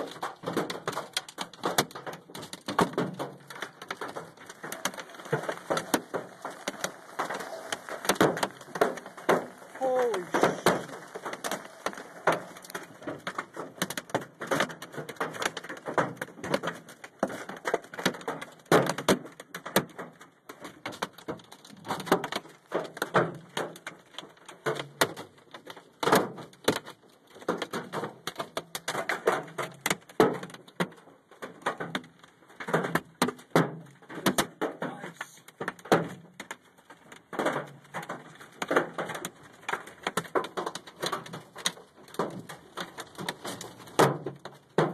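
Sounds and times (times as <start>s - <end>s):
hail clattering on a truck: 0.0s - 44.9s.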